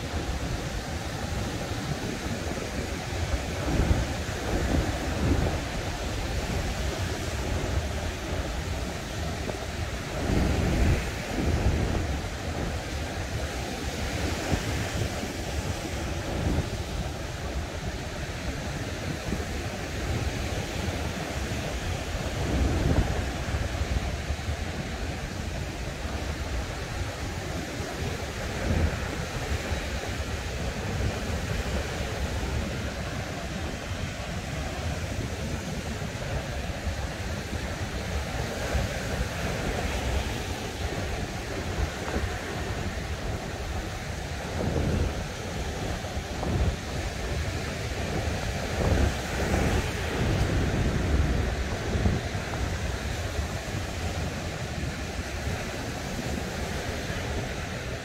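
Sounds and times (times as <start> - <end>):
ocean surf breaking: 0.0 - 58.0
wind buffeting microphone: 0.0 - 58.0.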